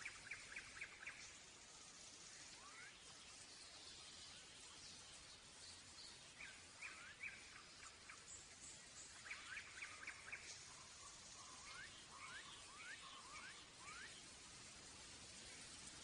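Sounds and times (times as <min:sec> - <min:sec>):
bird chirps: 0:00.0 - 0:16.0
faint steady hiss: 0:00.0 - 0:16.0.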